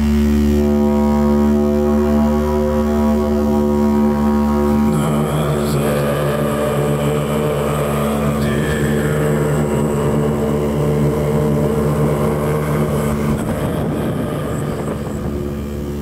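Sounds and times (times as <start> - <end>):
droning music with low tones: 0.0 - 16.0.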